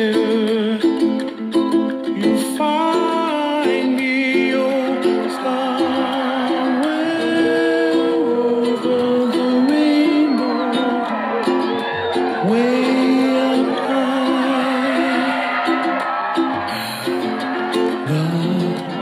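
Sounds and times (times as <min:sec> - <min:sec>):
person singing long notes: 0:00.0 - 0:19.0
ukulele: 0:00.0 - 0:19.0.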